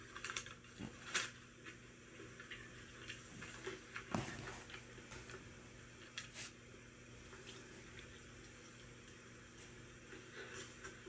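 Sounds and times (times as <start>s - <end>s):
person chewing food: 0.0s - 5.4s, 7.3s - 11.0s.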